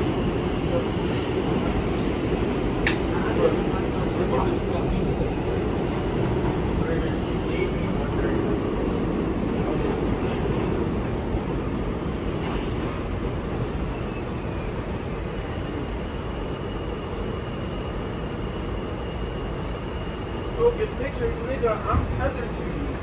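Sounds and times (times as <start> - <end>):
subway train wheels rumbling: 0.0 - 23.0.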